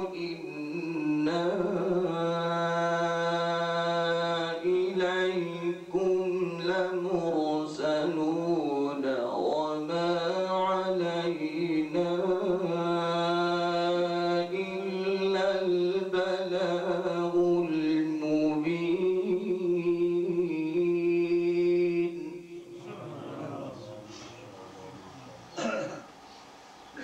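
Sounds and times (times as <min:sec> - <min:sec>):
man reciting melodically: 0:00.0 - 0:25.1.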